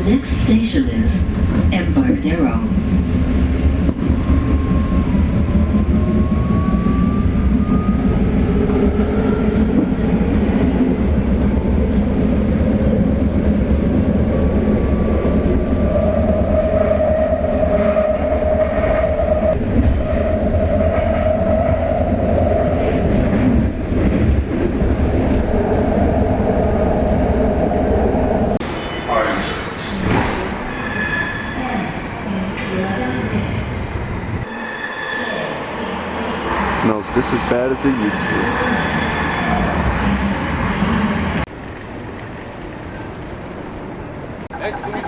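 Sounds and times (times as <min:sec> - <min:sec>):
subway train rumble and clatter: 0:00.0 - 0:45.0.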